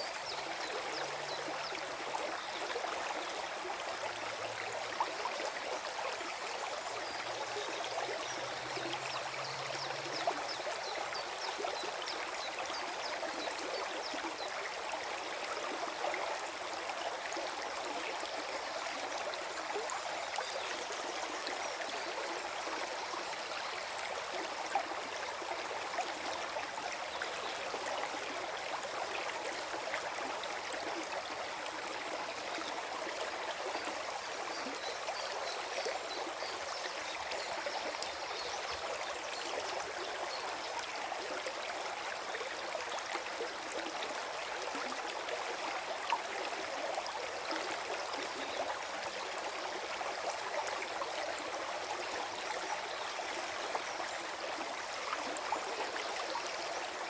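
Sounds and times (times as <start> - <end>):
stream gurgling over stones: 0.0 - 57.0.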